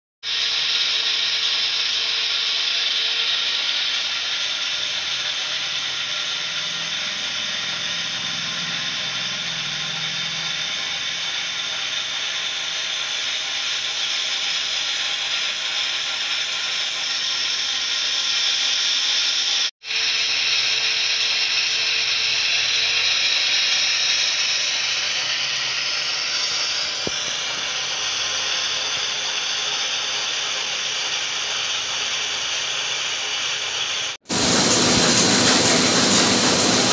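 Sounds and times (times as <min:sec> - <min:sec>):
printing press whirring hiss: 0:00.4 - 0:19.7, 0:23.2 - 0:36.9.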